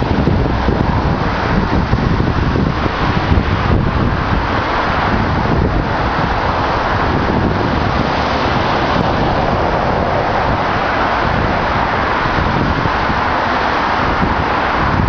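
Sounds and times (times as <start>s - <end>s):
large excavators running: 0.0s - 15.0s
wind buffeting microphone: 0.0s - 15.0s.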